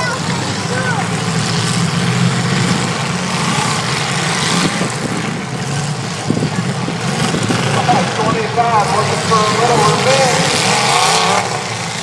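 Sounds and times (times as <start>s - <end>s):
arena noise: 0.0s - 12.0s
car engines running together: 0.0s - 12.0s.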